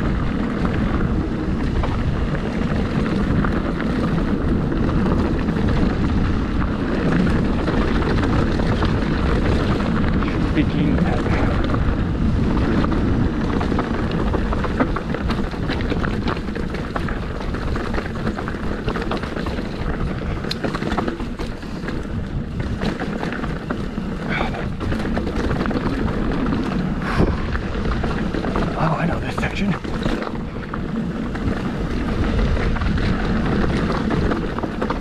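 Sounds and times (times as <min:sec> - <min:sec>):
bike rattling and clicking: 0:00.0 - 0:35.0
bike tyres on loose rock: 0:00.0 - 0:35.0
wind buffeting microphone: 0:00.0 - 0:35.0.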